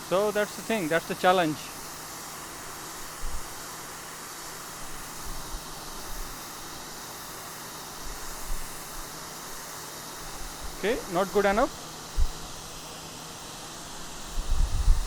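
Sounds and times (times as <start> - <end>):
pressure washer water jet hissing: 0.0 - 15.0.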